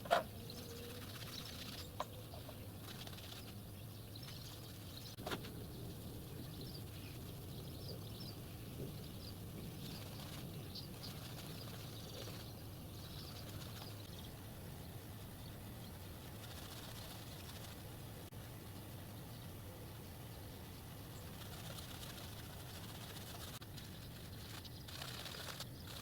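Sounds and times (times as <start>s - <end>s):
low background hum: 0.0s - 26.0s
small birds chirping: 0.0s - 26.0s.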